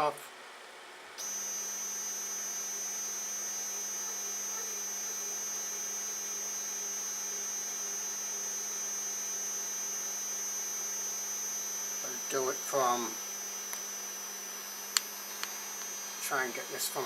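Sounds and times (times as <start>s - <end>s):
stepper motors humming with whine: 1.2s - 17.0s.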